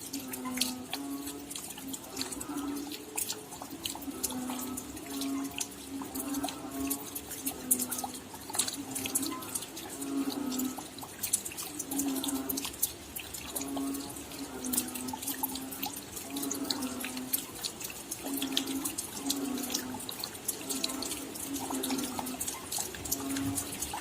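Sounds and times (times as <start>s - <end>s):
rain drops pattering: 0.0s - 24.0s
low droning animal call: 0.1s - 12.7s, 13.5s - 17.6s, 18.2s - 24.0s.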